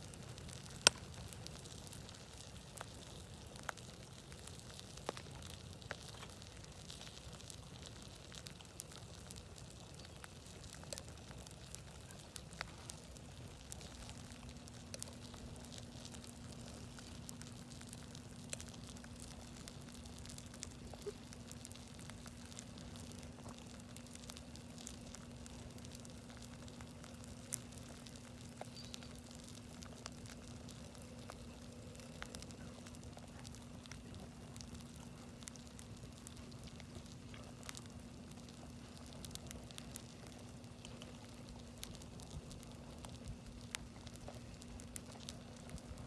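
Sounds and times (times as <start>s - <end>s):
campfire crackling and popping: 0.0s - 46.0s
low steady hum: 0.0s - 46.0s.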